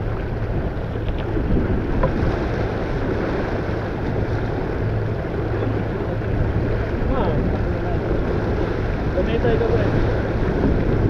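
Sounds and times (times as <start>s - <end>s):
water rushing along hull: 0.0s - 11.0s
wind rushing over microphone: 0.0s - 11.0s.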